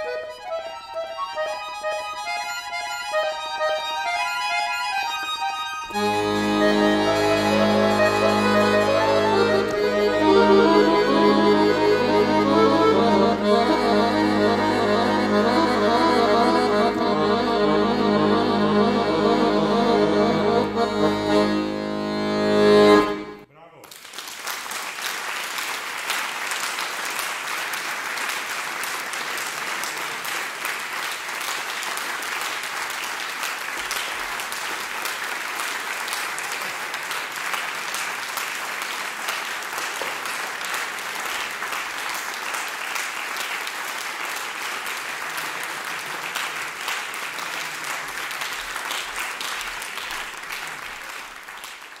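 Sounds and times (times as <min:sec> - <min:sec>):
audience applauding: 0:05.1 - 0:21.7, 0:23.0 - 0:52.0.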